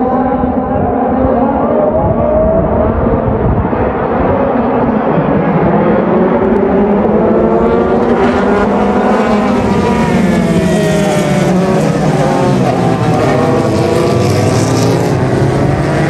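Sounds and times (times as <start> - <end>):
racing cars accelerating: 0.0 - 16.0.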